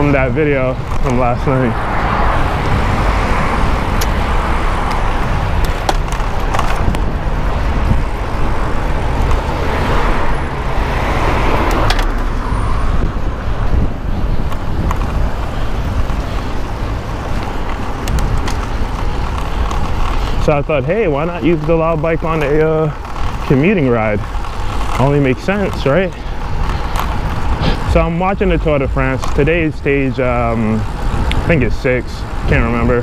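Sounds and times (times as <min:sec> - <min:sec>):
passing cars: 0:00.0 - 0:33.0
wind on microphone: 0:00.0 - 0:33.0.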